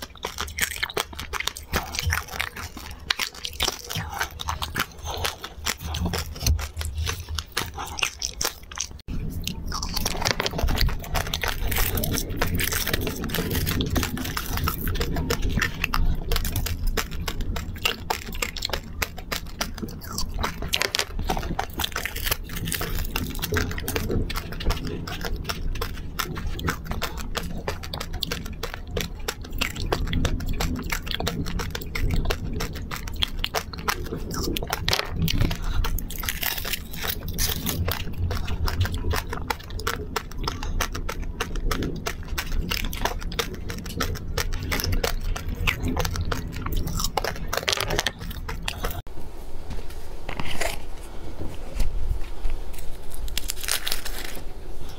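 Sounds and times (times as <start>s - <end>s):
chewing and crunching: 0.0s - 49.1s, 50.3s - 54.9s
wet mouth sounds: 0.0s - 49.1s.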